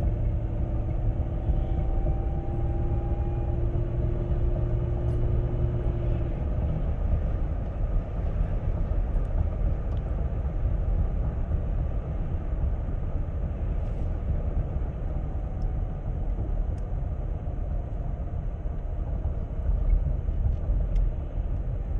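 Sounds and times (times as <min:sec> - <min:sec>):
car engine rumbling: 0:00.0 - 0:21.9.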